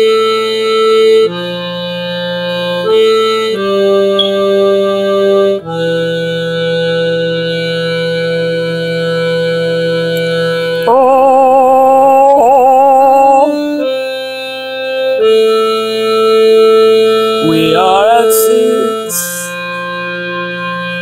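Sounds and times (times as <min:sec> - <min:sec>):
electronic keyboard organ chords: 0:00.0 - 0:21.0.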